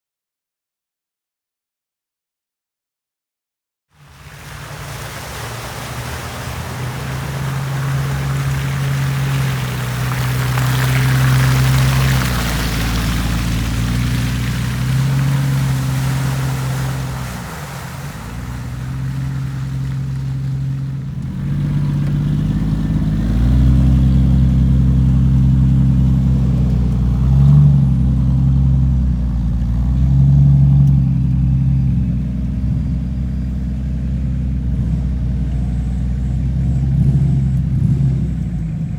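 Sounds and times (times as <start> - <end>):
off-road vehicle engine revving: 4.0 - 38.9.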